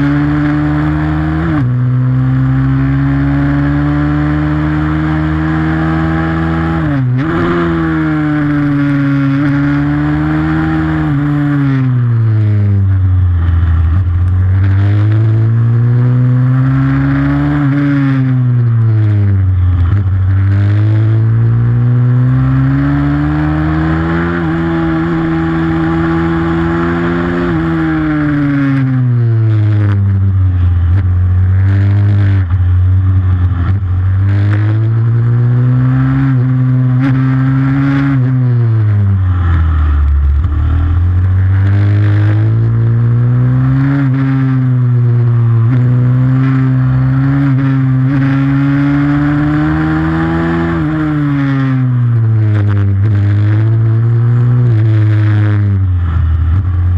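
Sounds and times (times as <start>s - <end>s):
motorcycle engine revving hard: 0.0s - 56.9s.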